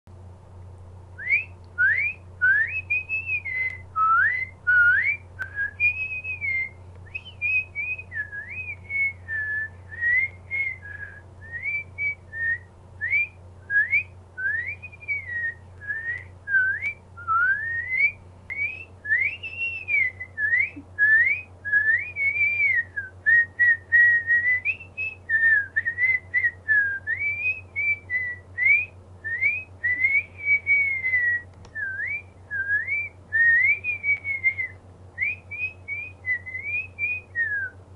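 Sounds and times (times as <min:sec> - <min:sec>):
steady low hum: 0:00.1 - 0:37.9
woman whistling a tune: 0:01.2 - 0:37.8.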